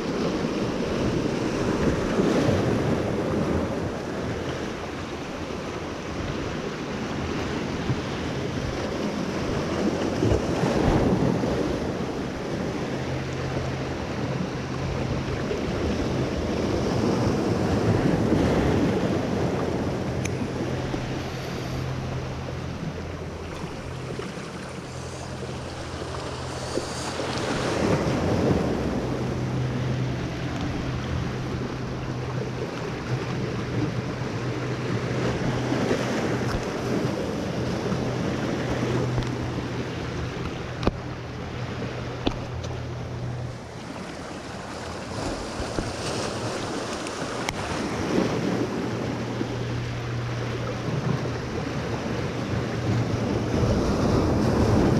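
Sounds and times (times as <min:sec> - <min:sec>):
steady low hum: 0:00.0 - 0:54.9
surf breaking over rocks: 0:00.0 - 0:54.9.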